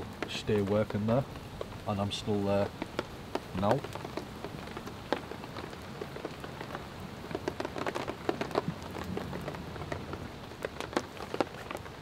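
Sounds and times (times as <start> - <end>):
pops and crackles: 0.0 - 12.0.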